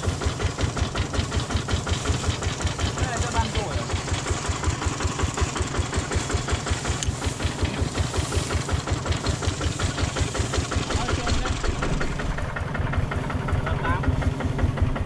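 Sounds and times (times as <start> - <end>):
diesel engine idling chugging: 0.0 - 15.0.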